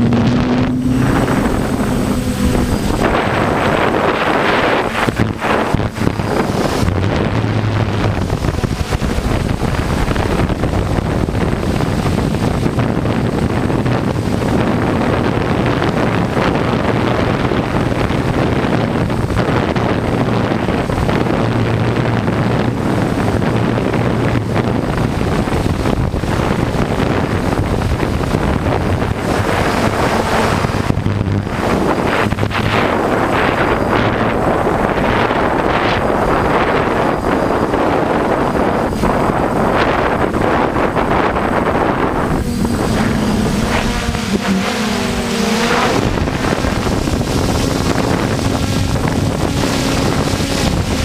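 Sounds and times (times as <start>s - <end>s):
gusty wind buffeting microphone: 0.0s - 51.0s
low hum: 0.0s - 51.0s.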